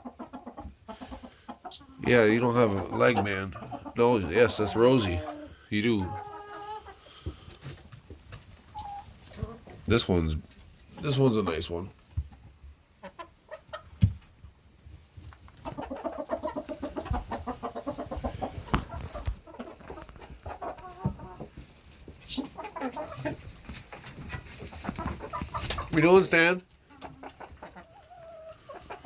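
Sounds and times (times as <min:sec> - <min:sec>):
hens clucking: 0:00.0 - 0:29.0.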